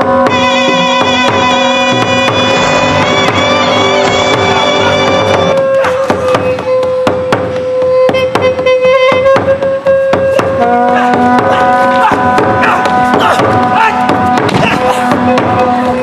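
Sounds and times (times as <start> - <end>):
drum strikes: 0.0 - 16.0.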